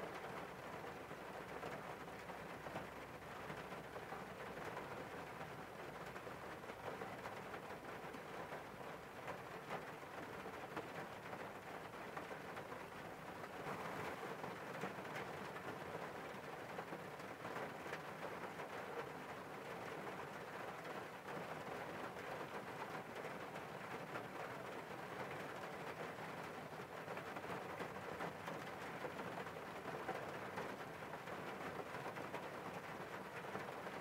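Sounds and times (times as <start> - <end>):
rain on car windscreen: 0.0 - 34.0.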